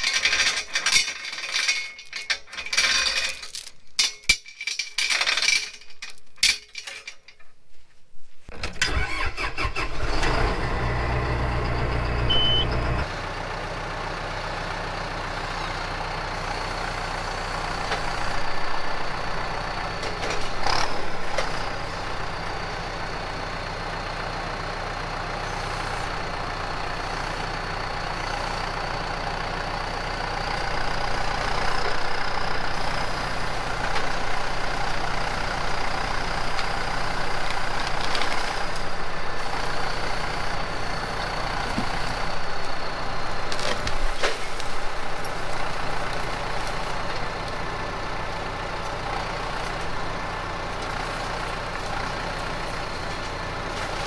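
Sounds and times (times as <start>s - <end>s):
diesel tractor engine running: 8.5s - 54.0s.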